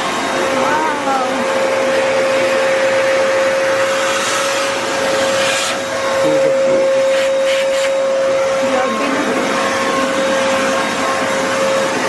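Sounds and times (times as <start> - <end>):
handheld vacuum cleaner running: 0.0 - 12.0.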